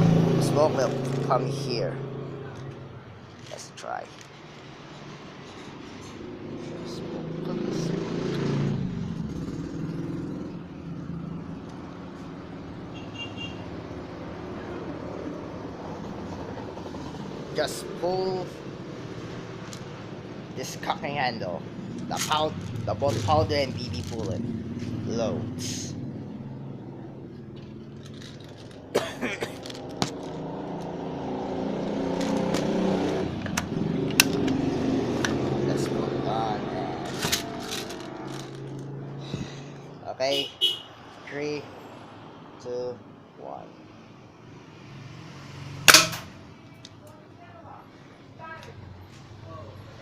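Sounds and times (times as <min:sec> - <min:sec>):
engine-like hum: 0:00.0 - 0:50.0.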